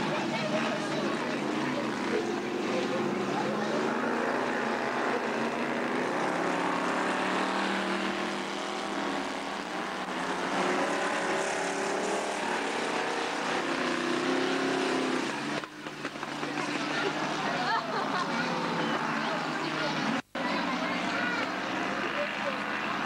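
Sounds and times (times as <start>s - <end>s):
racing car engines revving: 0.0s - 23.0s.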